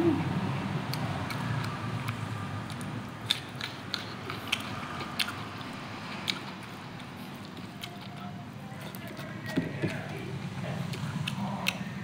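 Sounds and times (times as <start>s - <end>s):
person chewing food: 0.9s - 12.0s.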